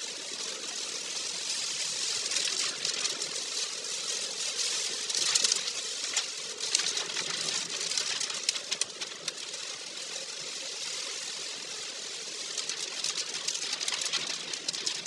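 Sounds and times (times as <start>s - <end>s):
heavy rain hiss: 0.0s - 15.0s
raindrops ticking on car body: 0.3s - 15.0s.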